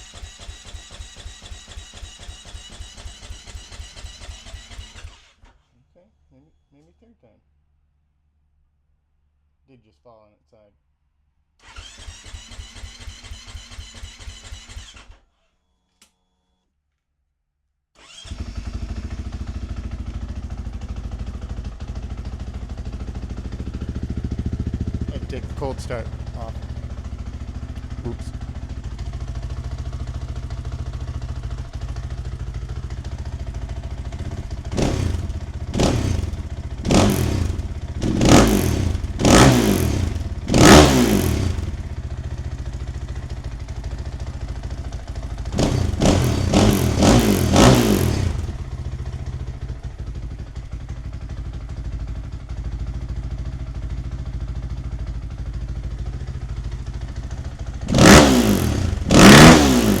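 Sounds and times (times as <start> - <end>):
dirt bike engine idling and revving: 0.0 - 5.6, 11.6 - 15.2, 18.0 - 60.0.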